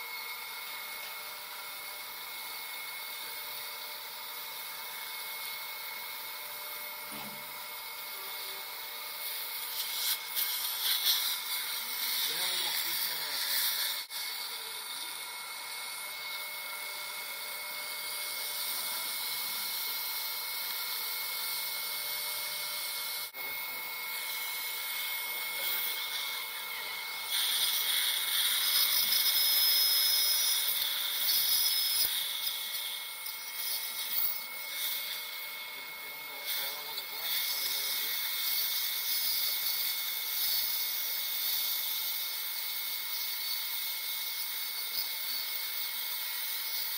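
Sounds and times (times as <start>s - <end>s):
suction tip hissing: 2.0s - 46.9s.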